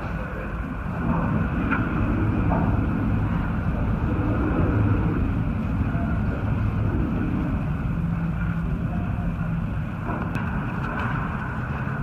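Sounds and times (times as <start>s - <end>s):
strong wind blowing: 0.0s - 12.0s.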